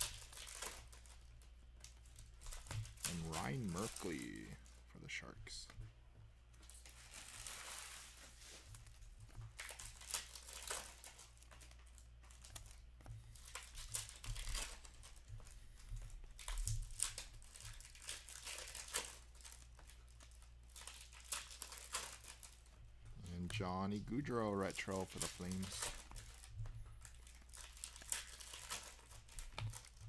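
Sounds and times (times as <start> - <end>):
card pack wrappers rustling: 0.0 - 5.8, 6.5 - 30.0
cards being handled: 0.0 - 30.0.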